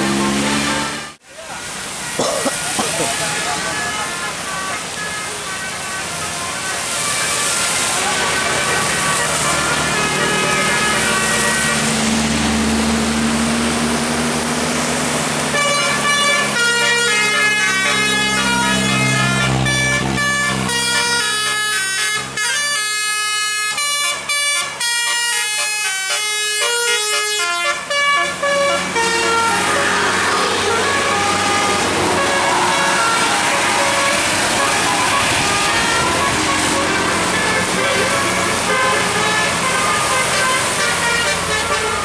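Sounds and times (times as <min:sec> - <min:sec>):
bus air horn playing a tune: 0:00.0 - 0:01.2, 0:02.0 - 0:13.0, 0:15.5 - 0:42.0
bus engine running: 0:00.0 - 0:01.2, 0:07.0 - 0:42.0
road noise hiss: 0:00.0 - 0:42.0.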